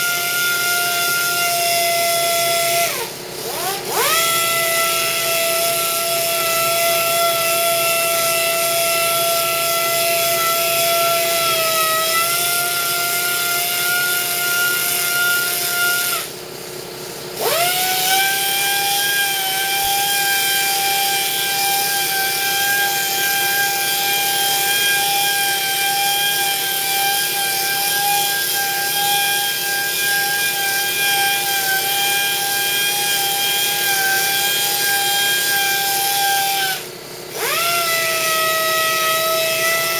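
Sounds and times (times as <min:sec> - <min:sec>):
pneumatic polisher whine: 0:00.0 - 0:39.9.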